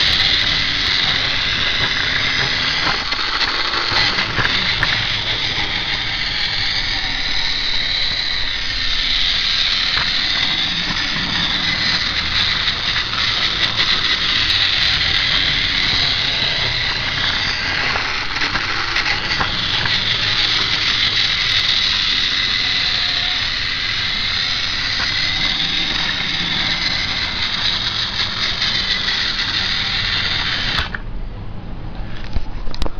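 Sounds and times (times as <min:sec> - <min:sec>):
toy train motor whine: 0:00.0 - 0:31.1.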